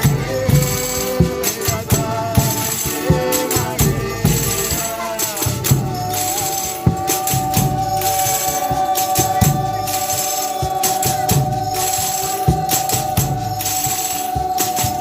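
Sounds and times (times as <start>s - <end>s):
tambourines shaken and struck: 0.0s - 15.0s.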